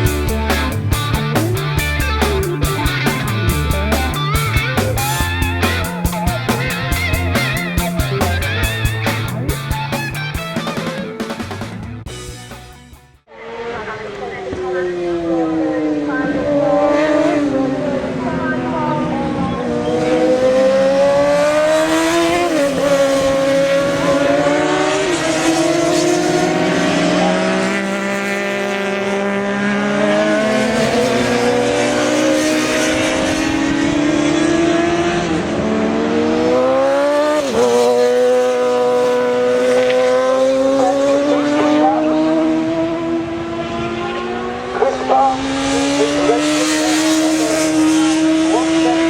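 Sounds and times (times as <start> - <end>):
racing motorcycles accelerating: 0.0 - 11.5, 13.3 - 49.0.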